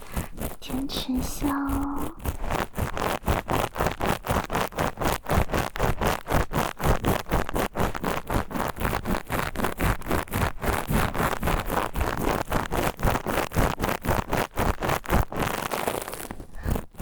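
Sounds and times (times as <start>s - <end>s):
steel wool scraping microphone: 0.0s - 17.0s.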